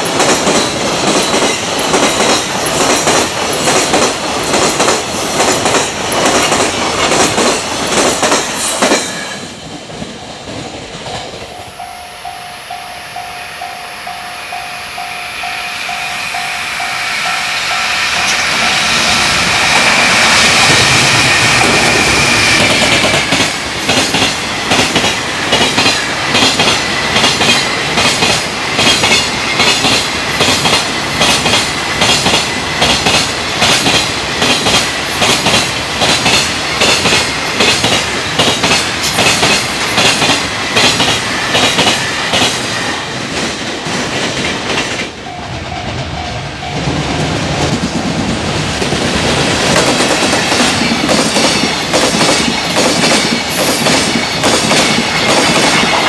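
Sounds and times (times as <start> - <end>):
train wheels clacking over rail joints: 0.0 - 9.5, 18.1 - 45.2, 45.8 - 56.0.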